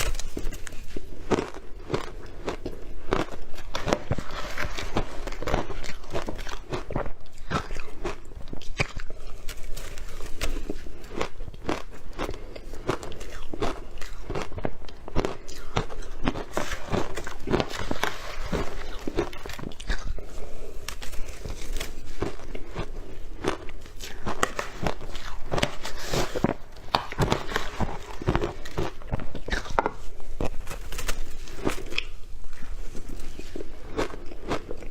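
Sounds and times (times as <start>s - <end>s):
crunchy food chewing: 0.0s - 34.9s.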